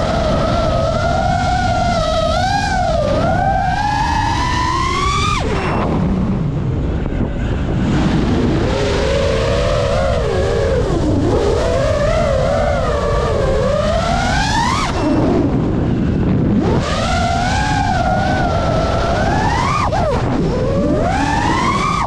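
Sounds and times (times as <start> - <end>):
drone motors whining: 0.0 - 22.0
low rushing noise: 0.0 - 22.0.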